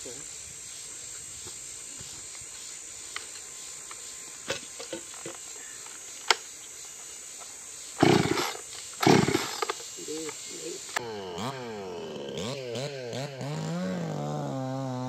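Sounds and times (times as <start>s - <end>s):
insect hiss: 0.0s - 15.0s.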